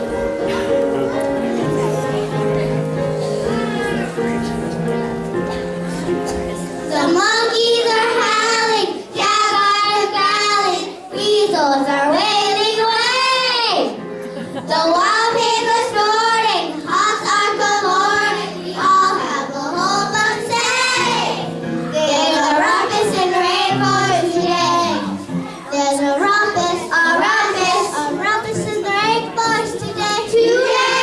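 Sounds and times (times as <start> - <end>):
musical accompaniment: 0.0 - 31.0
young voices singing: 0.0 - 31.0.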